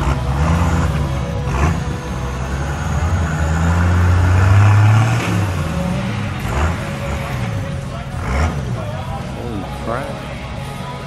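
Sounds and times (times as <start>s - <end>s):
background music: 0.0s - 11.0s
loader engine working under load: 0.0s - 11.0s.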